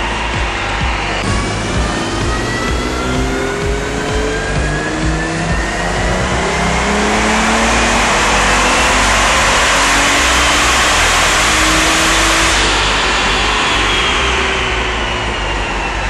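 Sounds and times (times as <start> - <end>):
turbo car engine revving: 0.0 - 16.0.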